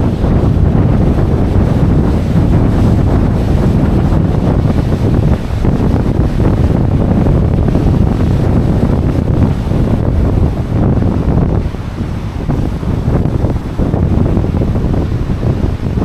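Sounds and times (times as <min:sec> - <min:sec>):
ocean surf: 0:00.0 - 0:16.0
wind buffeting microphone: 0:00.0 - 0:16.0.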